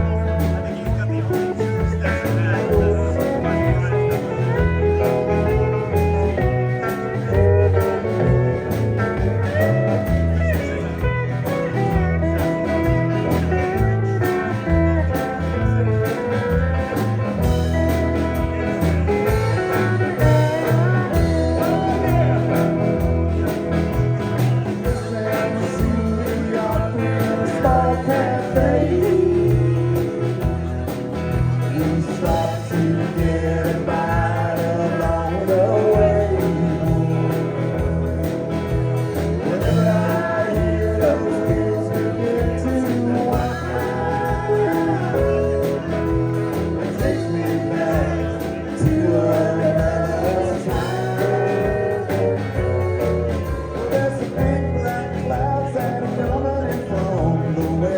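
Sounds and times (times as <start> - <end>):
country band playing live: 0.0 - 57.9
guitar: 0.0 - 57.9
person singing: 0.0 - 57.9.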